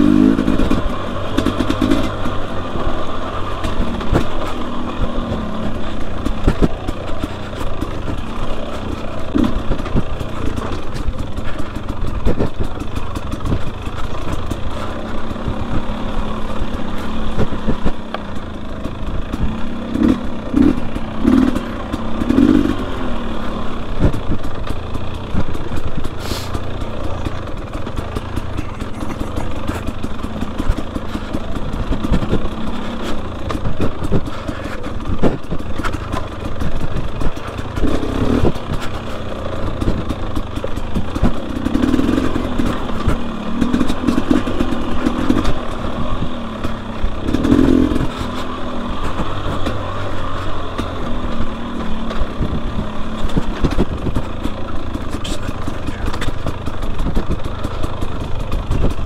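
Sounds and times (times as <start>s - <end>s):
dirt bike engine revving: 0.0s - 59.0s
knocks and clatter: 0.0s - 59.0s.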